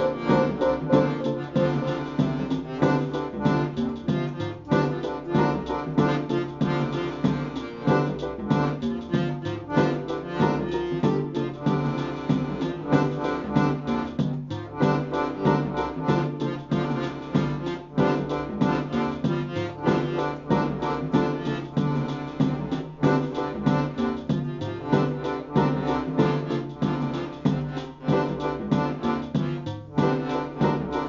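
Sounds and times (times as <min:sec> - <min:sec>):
accordions playing: 0:00.0 - 0:31.0
electronic beat: 0:00.0 - 0:31.0
electronic keyboard: 0:00.0 - 0:31.0
held bass line: 0:00.0 - 0:31.0.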